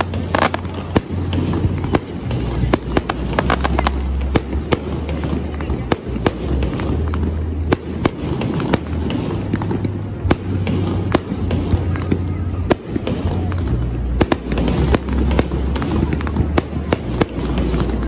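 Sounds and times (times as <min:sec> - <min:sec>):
continuous low rumble: 0:00.0 - 0:18.0
fireworks bangs and pops: 0:00.0 - 0:18.0.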